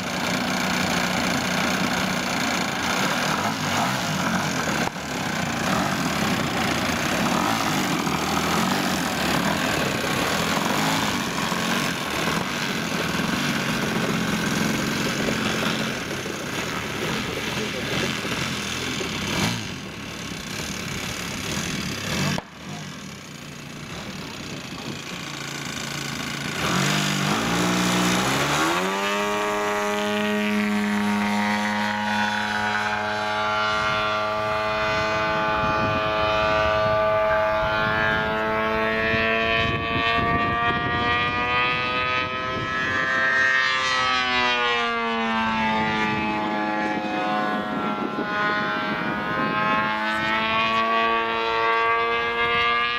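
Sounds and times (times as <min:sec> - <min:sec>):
model airplane engine: 0:00.0 - 0:52.9.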